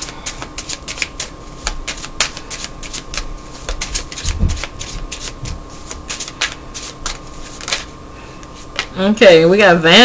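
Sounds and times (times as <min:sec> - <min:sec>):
cards shuffling: 0:00.0 - 0:08.9.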